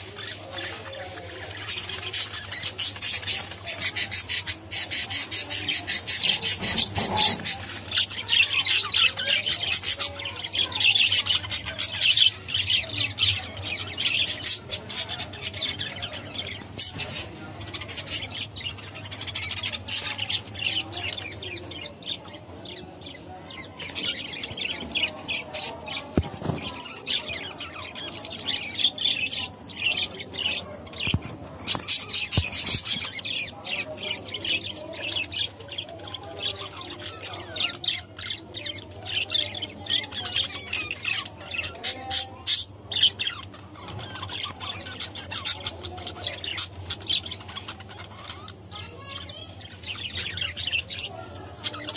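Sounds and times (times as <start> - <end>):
budgerigars chattering and squawking: 0.0 - 51.9.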